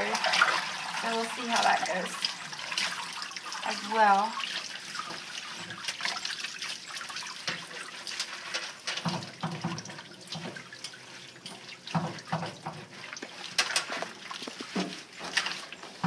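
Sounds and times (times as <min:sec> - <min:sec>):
dripping water: 0:00.0 - 0:16.0
wet squishing and splashing: 0:00.0 - 0:16.0.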